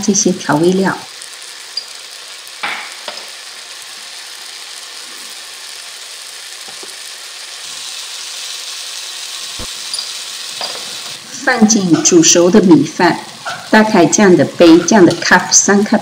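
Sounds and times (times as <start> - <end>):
sauce sizzling in a wok: 0.0 - 16.0.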